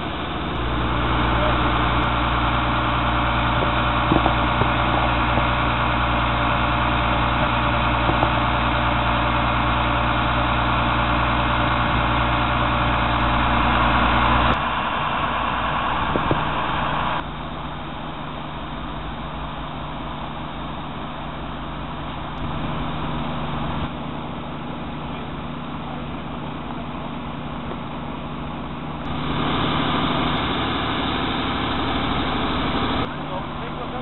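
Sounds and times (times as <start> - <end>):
heavy vehicle engines idling: 0.0 - 34.0
street traffic: 0.0 - 34.0.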